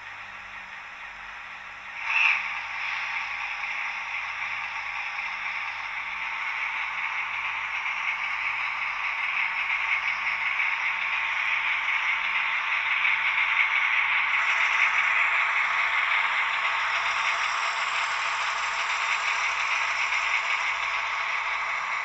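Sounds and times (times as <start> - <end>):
model train whirring and rattling: 0.0 - 22.0.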